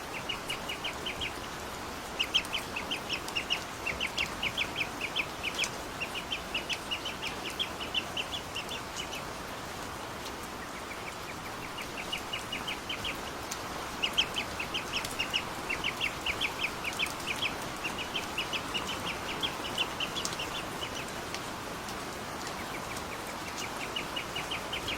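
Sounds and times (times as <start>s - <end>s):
ducklings peeping: 0.0s - 9.4s, 10.6s - 21.2s, 22.4s - 24.9s
steady hiss: 0.0s - 24.9s.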